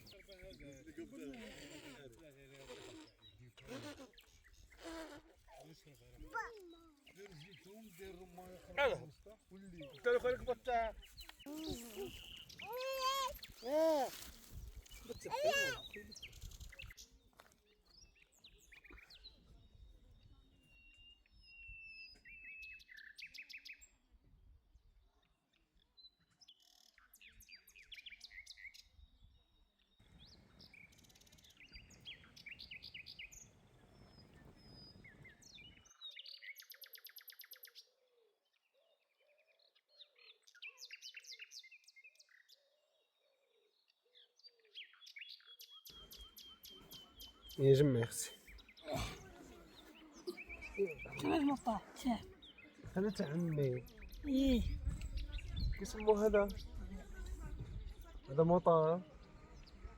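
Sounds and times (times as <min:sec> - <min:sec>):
birds chirping faintly: 0:00.0 - 0:23.7, 0:26.8 - 0:59.9.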